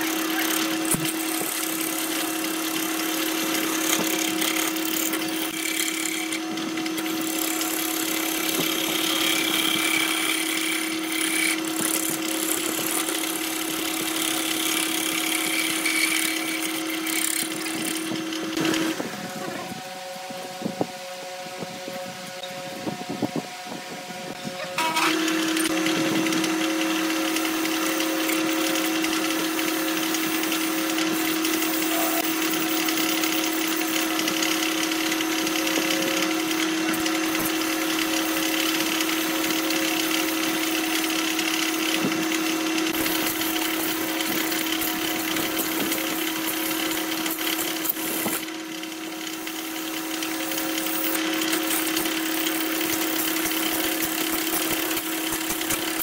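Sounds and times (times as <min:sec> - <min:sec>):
gouge scraping spinning wood: 0:00.0 - 0:19.4, 0:24.6 - 0:56.0
lathe motor hum: 0:00.0 - 0:23.1, 0:23.7 - 0:56.0.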